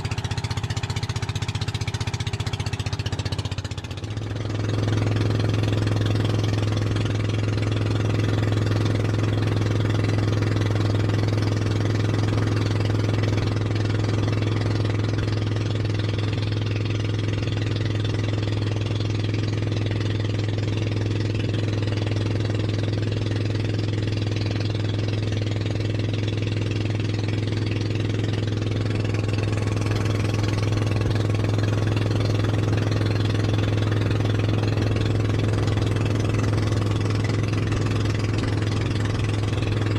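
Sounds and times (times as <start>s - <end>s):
motorboat engine humming: 0.0s - 39.9s.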